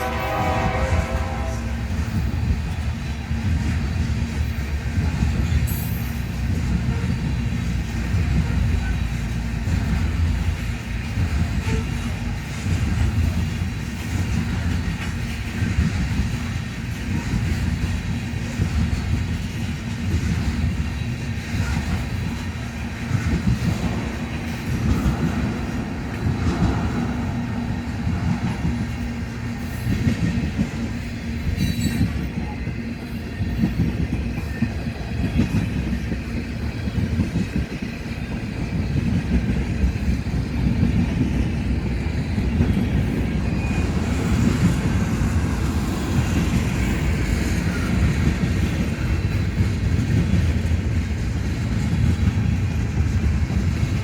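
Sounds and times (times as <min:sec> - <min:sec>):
train rumbling along track: 0:00.0 - 0:54.0.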